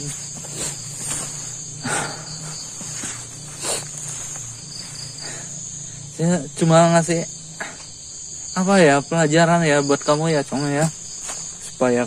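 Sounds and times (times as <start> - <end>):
crickets and insects trilling: 0.0 - 12.0.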